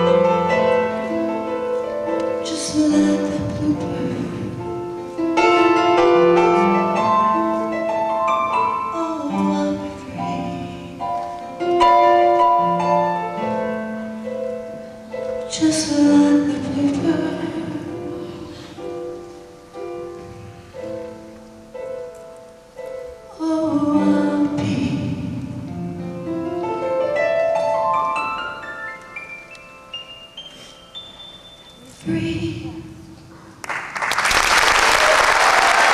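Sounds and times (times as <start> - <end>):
slow piano music: 0.0 - 34.0.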